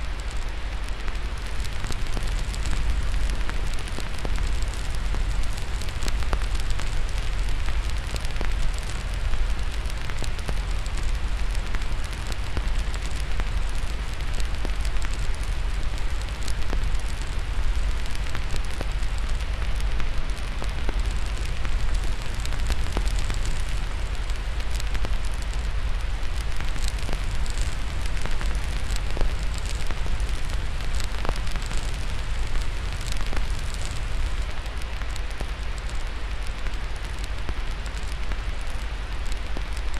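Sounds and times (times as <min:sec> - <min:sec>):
white noise hiss: 0:00.0 - 0:39.9
wood fire crackling and popping: 0:00.1 - 0:39.9.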